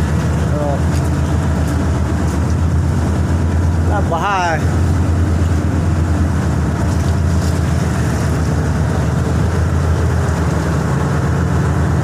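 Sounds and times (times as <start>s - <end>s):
ship engine drone: 0.0s - 12.0s.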